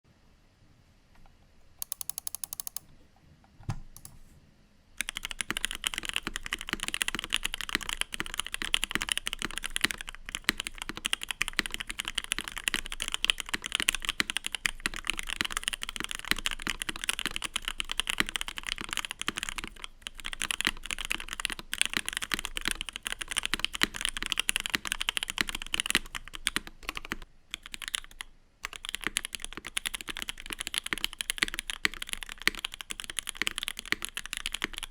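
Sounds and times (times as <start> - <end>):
typing on mechanical keyboard: 1.8 - 2.9, 5.0 - 34.9.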